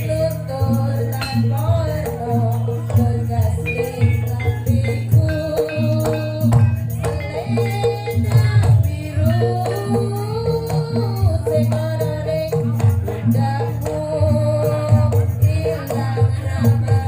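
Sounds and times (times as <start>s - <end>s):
hand drum beat: 0.0s - 17.0s
jingling percussion: 0.0s - 17.0s
person singing: 0.0s - 17.0s.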